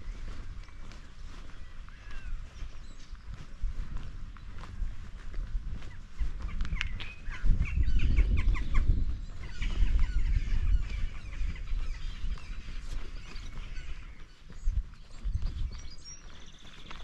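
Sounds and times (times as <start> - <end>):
birds calling: 0.0 - 17.0
footsteps: 0.0 - 17.0
wind on microphone: 0.0 - 17.0.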